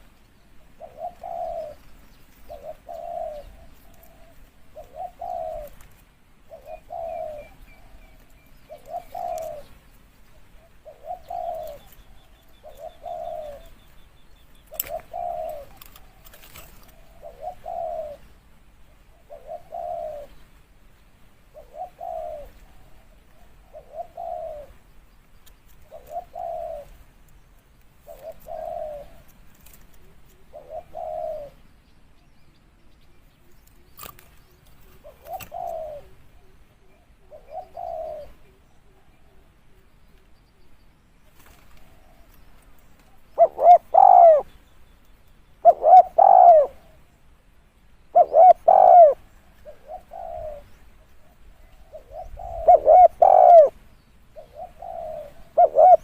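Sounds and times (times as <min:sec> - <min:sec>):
dove cooing: 0:00.0 - 0:20.6, 0:21.4 - 0:25.0, 0:25.7 - 0:27.2, 0:28.0 - 0:31.7, 0:32.9 - 0:44.6, 0:45.6 - 0:47.2, 0:48.0 - 0:56.0.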